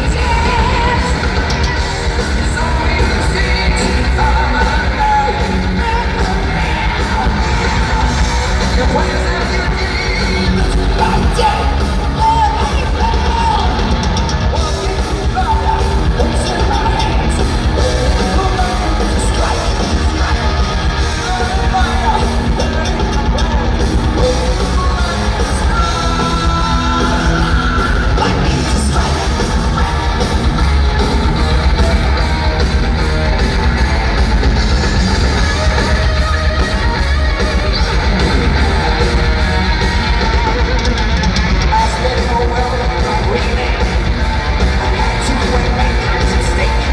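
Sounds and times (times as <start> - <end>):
bass guitar: 0.0 - 46.9
distorted electric guitars: 0.0 - 46.9
drums: 0.0 - 46.9
sung and screamed vocals: 0.0 - 46.9.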